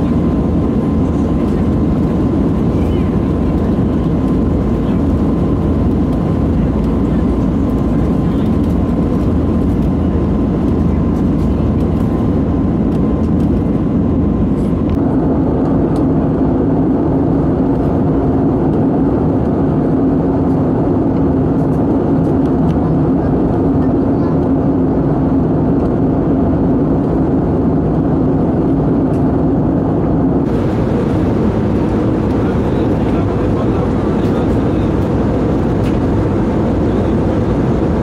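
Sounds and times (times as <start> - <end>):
aircraft cabin engine and airflow rush: 0.0 - 38.0
low engine drone: 0.0 - 38.0.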